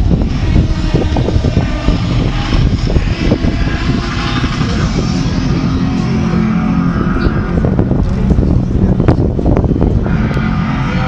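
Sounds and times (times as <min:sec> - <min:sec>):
motorboat engine rumble: 0:00.0 - 0:11.0
wind buffeting microphone: 0:00.0 - 0:11.0.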